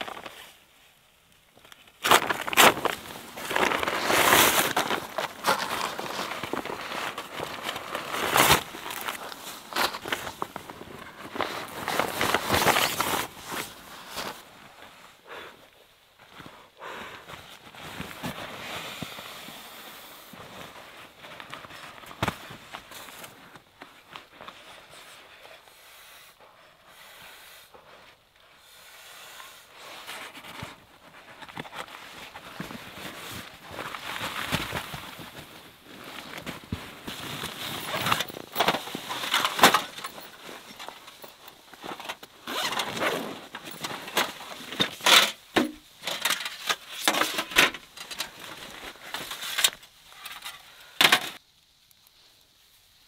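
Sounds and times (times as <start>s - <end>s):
nylon sleeping pad rustling: 1.9s - 51.4s.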